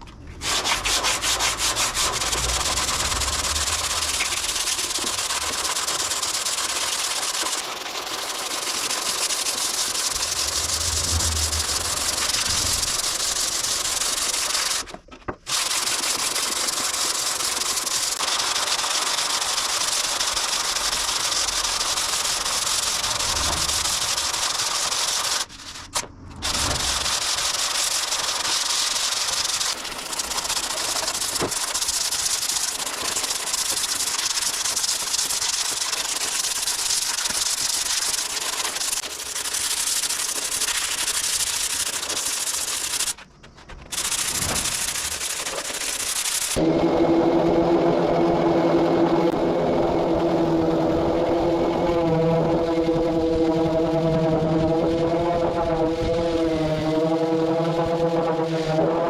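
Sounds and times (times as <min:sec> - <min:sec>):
sanding body filler: 0:00.4 - 0:14.9, 0:15.5 - 0:59.0.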